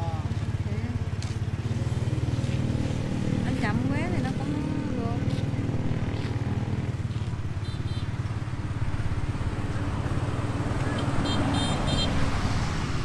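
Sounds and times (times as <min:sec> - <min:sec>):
motorbike engine running: 0:00.0 - 0:10.6.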